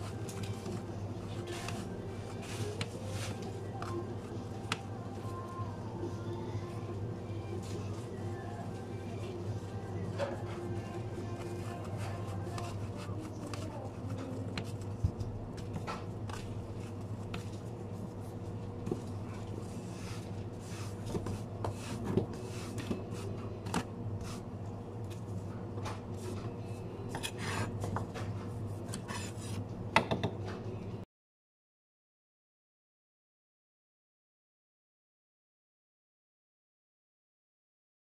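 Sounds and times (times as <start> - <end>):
kitchen equipment hum: 0.0 - 31.0.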